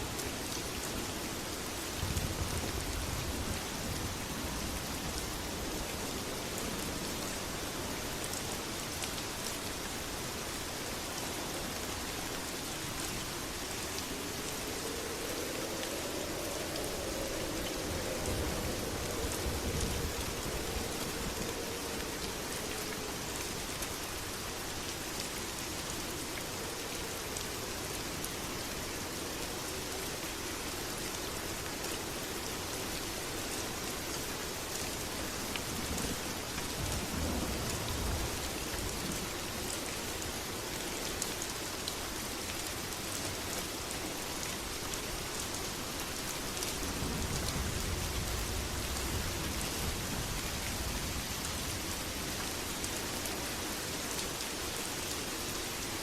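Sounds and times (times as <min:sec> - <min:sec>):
heavy rain pattering: 0:00.0 - 0:56.0.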